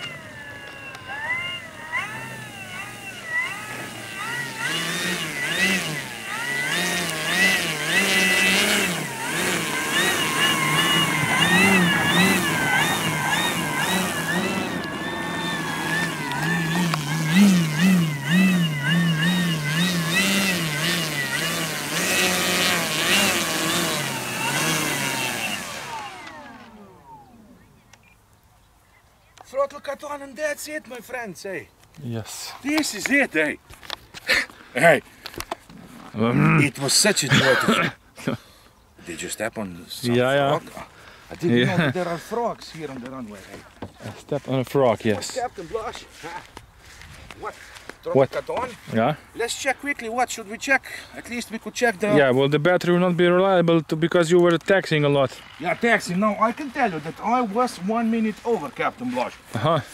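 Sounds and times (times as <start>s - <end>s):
electric motor and propeller whining: 0.0s - 28.2s, 39.0s - 59.9s.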